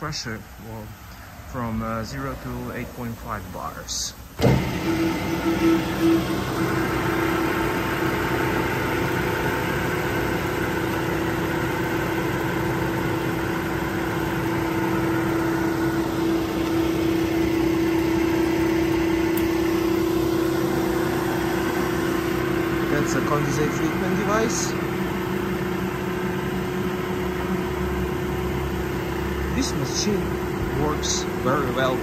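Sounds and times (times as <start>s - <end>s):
air compressor humming: 0.0s - 32.0s.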